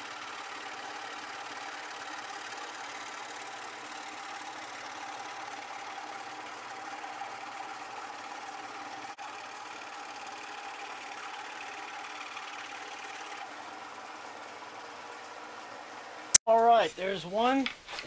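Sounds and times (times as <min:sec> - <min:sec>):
scroll saw cutting wood: 0:00.0 - 0:16.4.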